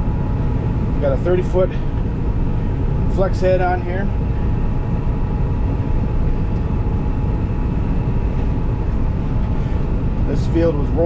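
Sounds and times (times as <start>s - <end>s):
combine engine and threshing drone: 0.0s - 11.0s
faint steady whine: 0.0s - 11.0s.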